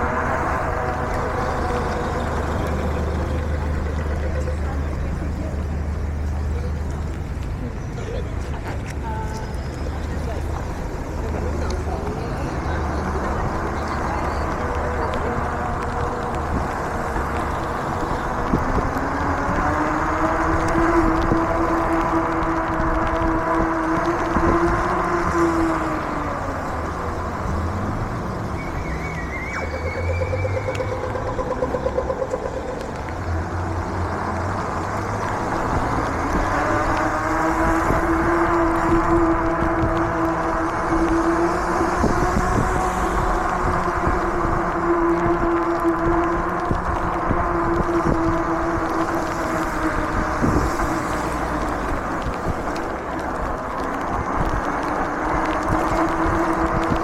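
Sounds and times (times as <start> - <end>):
road and traffic noise: 0.0 - 57.0.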